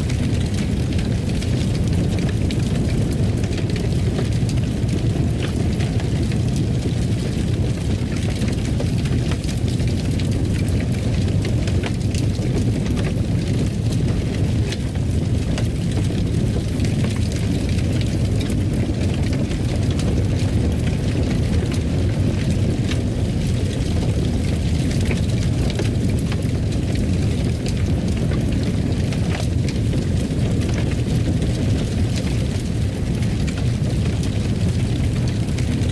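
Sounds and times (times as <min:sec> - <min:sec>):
fire popping: 0:00.0 - 0:35.9
fireplace fire crackling: 0:00.0 - 0:35.9.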